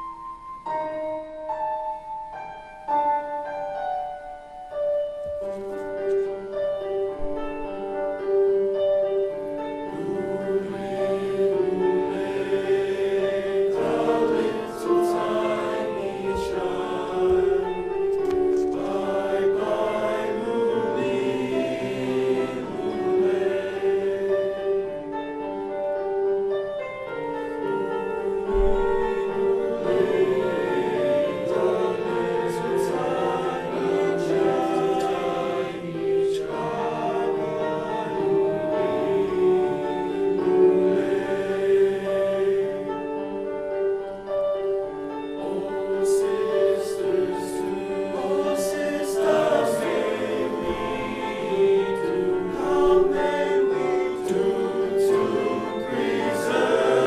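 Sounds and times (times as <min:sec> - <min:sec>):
choir singing: 0:04.8 - 0:57.0.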